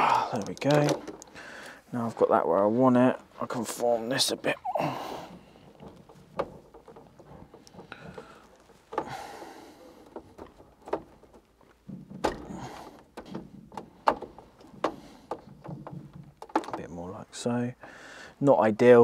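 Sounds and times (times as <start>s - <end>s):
cables clicking and knocking: 0.0s - 1.8s, 3.2s - 19.0s
cable rustling: 0.0s - 18.4s.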